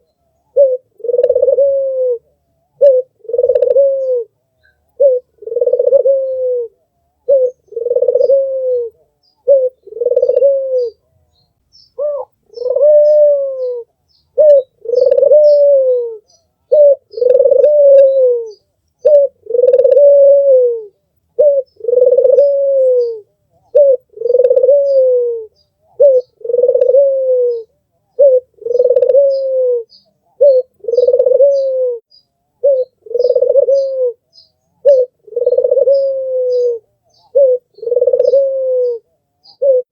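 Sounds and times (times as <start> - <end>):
dove cooing: 0.0 - 11.2, 12.0 - 39.9
small birds chirping: 2.4 - 20.2, 20.8 - 39.9.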